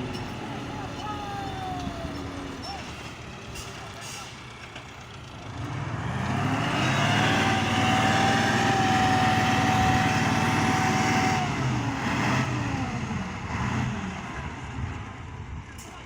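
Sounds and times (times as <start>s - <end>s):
heavy machine engine whining: 0.0s - 14.3s.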